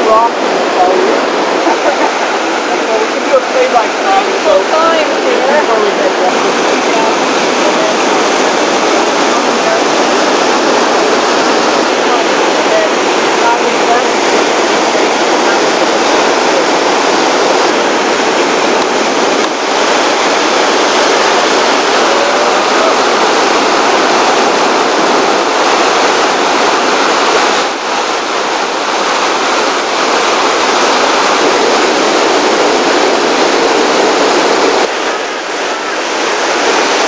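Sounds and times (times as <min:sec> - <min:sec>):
whitewater rapids roaring: 0:00.0 - 0:37.0.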